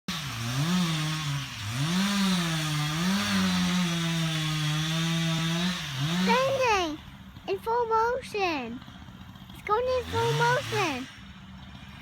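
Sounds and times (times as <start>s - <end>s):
chainsaw revving: 0.1s - 12.0s.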